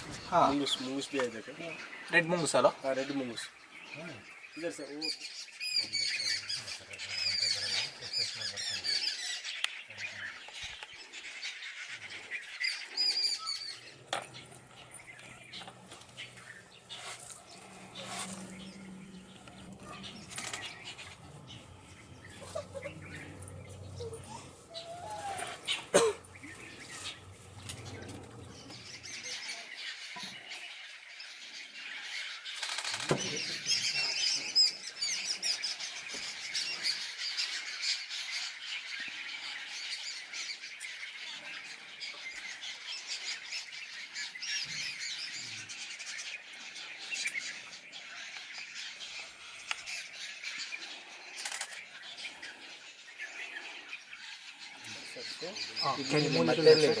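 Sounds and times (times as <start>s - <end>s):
birds chirping chorus: 0.0s - 57.0s.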